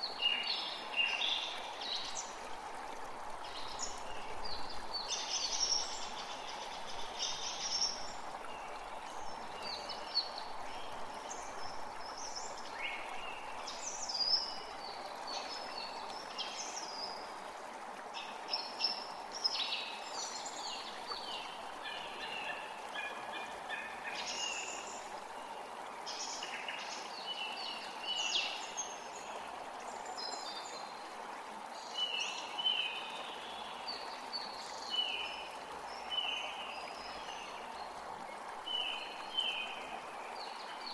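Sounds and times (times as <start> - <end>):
creek running: 0.0 - 40.9.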